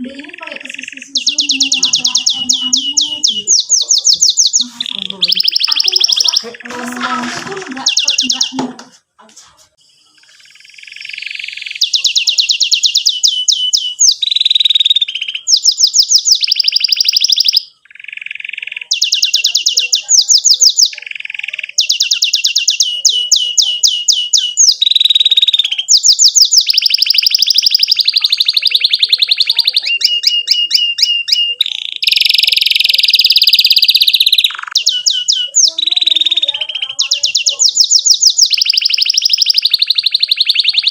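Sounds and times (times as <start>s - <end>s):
canary singing trills: 0.0s - 9.1s, 9.7s - 40.9s.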